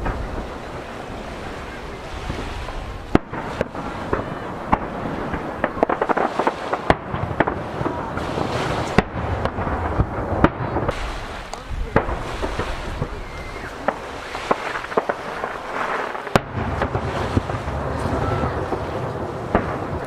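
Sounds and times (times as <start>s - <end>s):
firework crackling: 0.0s - 20.0s
firework shells bursting: 0.0s - 20.0s
waves washing against jetty: 0.0s - 20.0s.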